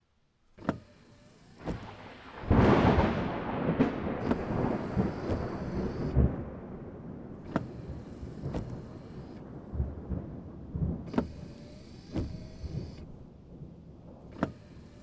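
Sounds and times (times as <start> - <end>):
rain on a car roof: 0.6 - 15.0
thunder clap rumbling: 1.7 - 15.0.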